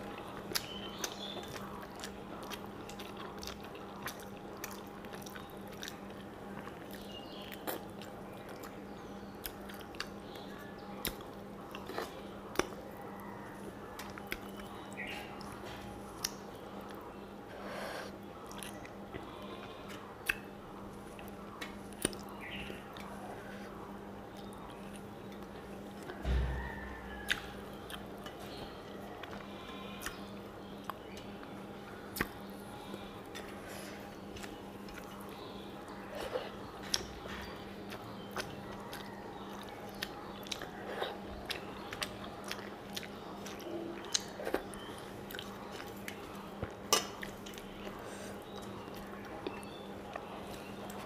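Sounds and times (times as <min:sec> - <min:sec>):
close chewing: 0:00.0 - 0:51.0
steady low hum: 0:00.0 - 0:51.0.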